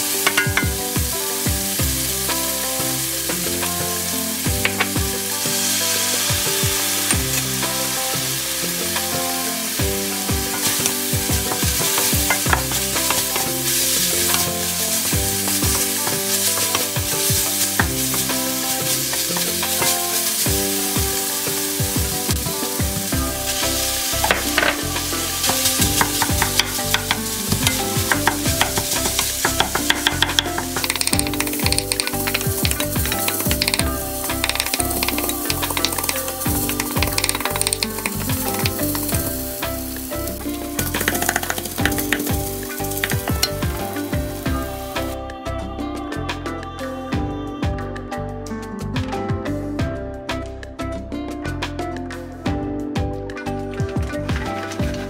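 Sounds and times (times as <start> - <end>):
food sizzling in frying pan: 0.0 - 45.2.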